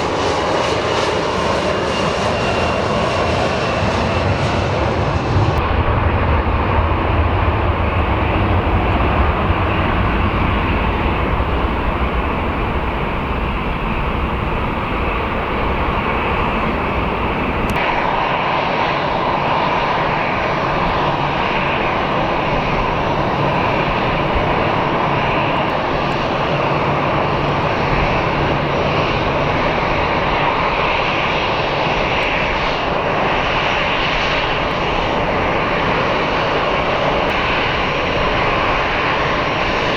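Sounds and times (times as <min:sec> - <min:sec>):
jet engines deep rumble: 0:00.0 - 0:39.9
jet engine hiss: 0:05.5 - 0:39.9.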